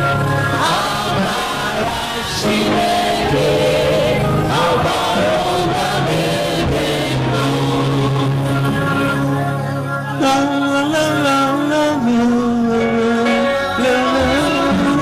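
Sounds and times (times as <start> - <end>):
gospel singing: 0.0 - 15.0
keyboard chords: 0.0 - 15.0.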